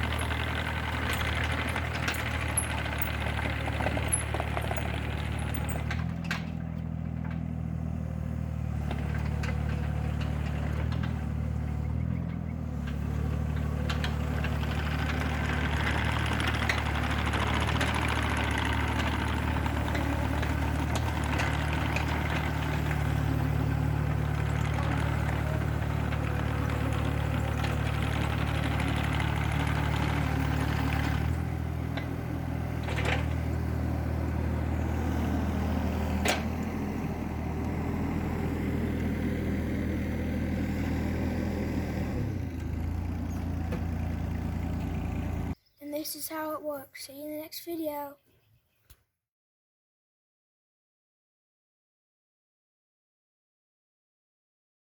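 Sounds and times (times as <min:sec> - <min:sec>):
diesel engine running: 0:00.0 - 0:47.4.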